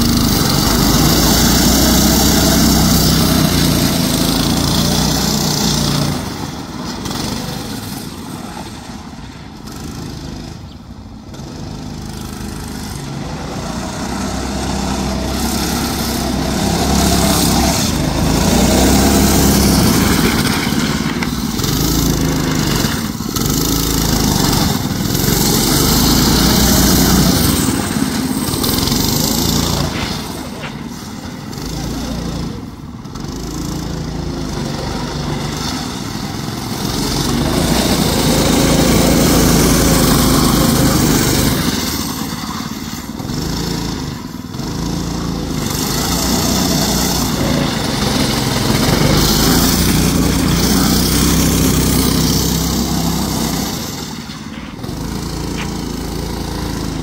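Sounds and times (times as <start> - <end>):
small engine running under throttle: 0.0 - 8.3, 9.6 - 57.0.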